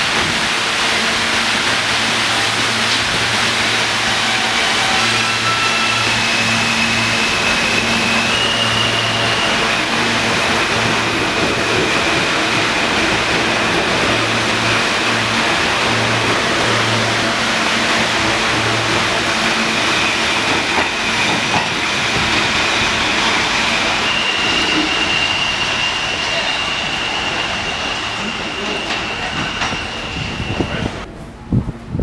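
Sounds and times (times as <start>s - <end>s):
high whine of train: 0.0s - 32.0s
subway train rumbling: 0.0s - 32.0s.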